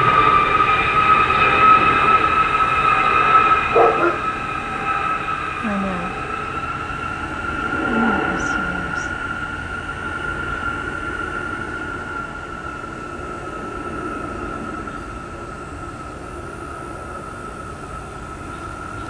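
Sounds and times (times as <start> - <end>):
military aircraft flying overhead: 0.0 - 19.0.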